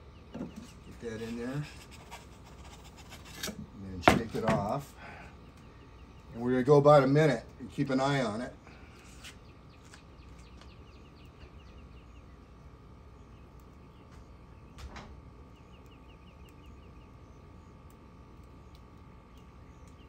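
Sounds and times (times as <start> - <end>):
bird singing: 0.0 - 1.7, 3.8 - 20.0.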